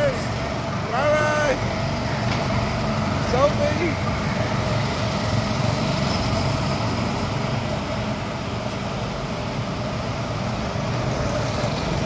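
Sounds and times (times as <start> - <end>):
constant whine: 0.0 - 12.0.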